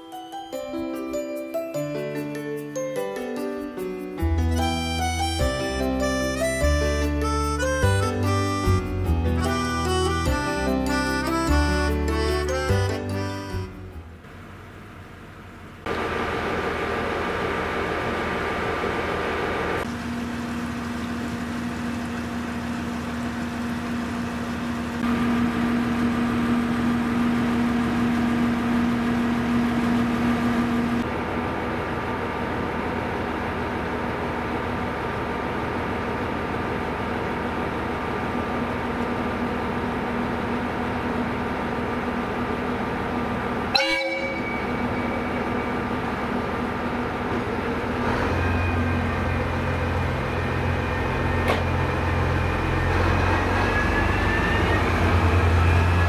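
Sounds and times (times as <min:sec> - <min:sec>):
diesel railcar engine idling: 0:04.3 - 0:56.0.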